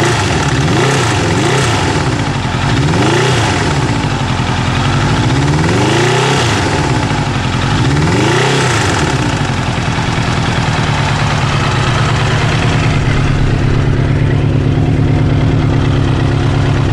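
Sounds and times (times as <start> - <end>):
motorcycle engine revving and idling: 0.0 - 16.9
rhythmic hammering in engine: 0.0 - 16.9.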